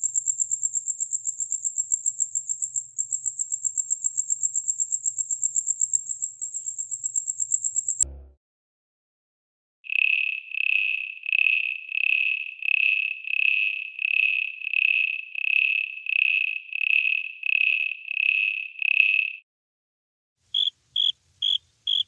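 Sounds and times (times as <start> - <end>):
cricket chirping: 0.0 - 8.0, 9.9 - 19.4, 20.5 - 22.0.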